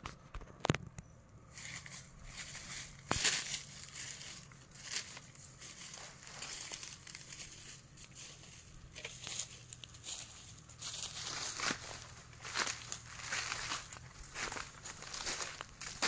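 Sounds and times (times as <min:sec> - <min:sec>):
footsteps through dry leaves: 0:01.5 - 0:16.0.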